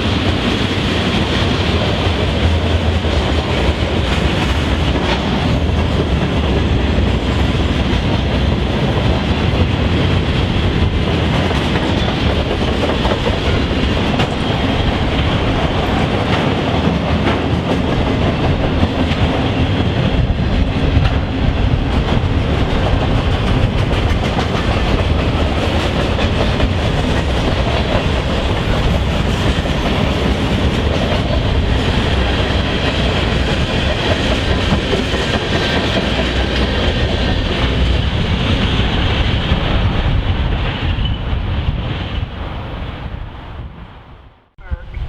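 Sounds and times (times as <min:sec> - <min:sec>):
train clickety-clack over rail joints: 0:00.0 - 0:44.0.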